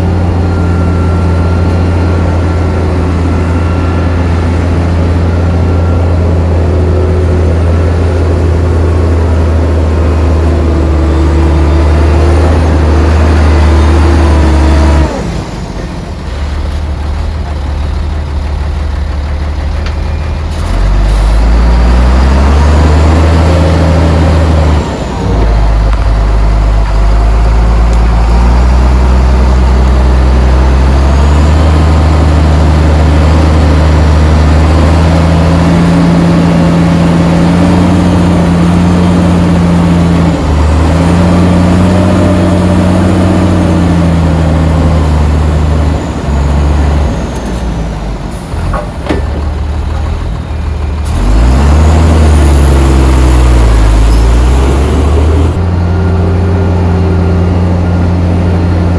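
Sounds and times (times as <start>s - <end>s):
heavy diesel engine revving: 0.0s - 58.9s.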